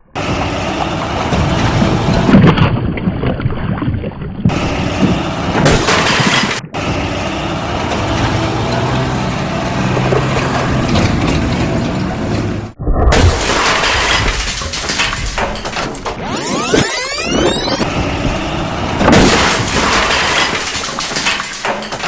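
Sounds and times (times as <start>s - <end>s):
vehicle motors running: 0.0s - 2.5s, 4.5s - 12.8s, 13.5s - 22.0s
low motor hum: 0.0s - 2.8s, 4.5s - 12.9s, 14.0s - 21.3s.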